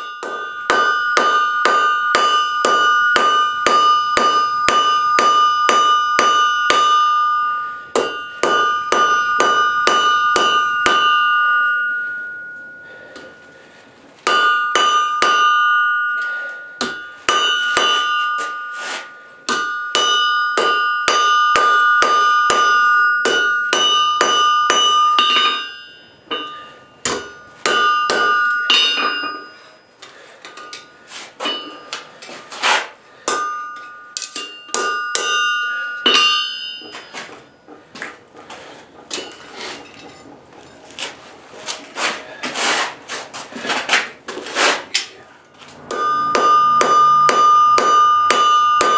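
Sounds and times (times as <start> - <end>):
hammer striking steel anvil: 0.0 - 13.6, 14.2 - 42.9, 43.9 - 48.9.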